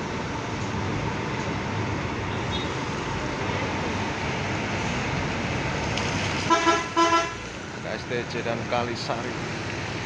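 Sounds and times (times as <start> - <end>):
bus diesel engines running: 0.0 - 10.0.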